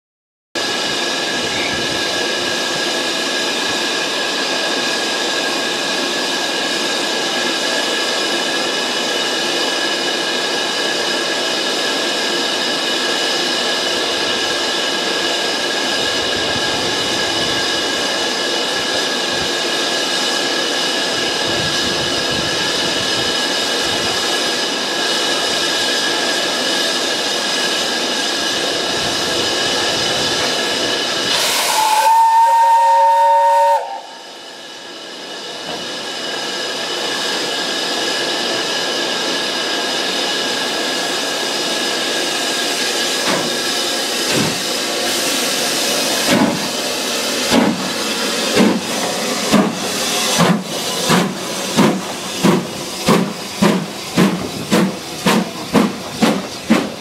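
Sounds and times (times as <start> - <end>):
steam locomotive hissing: 0.6 - 57.0.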